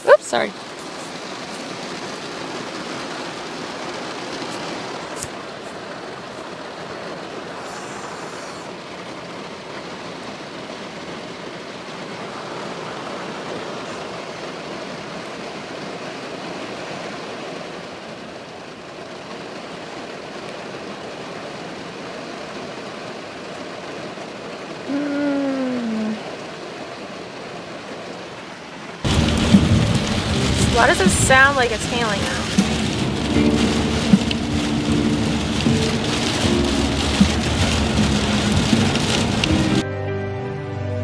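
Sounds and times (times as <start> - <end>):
heavy rain: 0.0 - 39.8.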